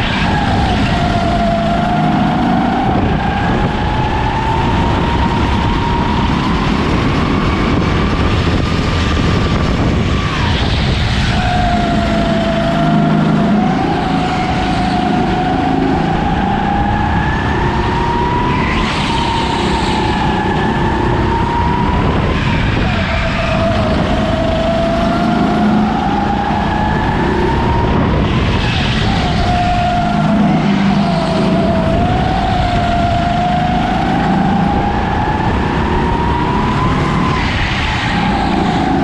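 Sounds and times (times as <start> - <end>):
go-kart engine whine: 0.0 - 39.0.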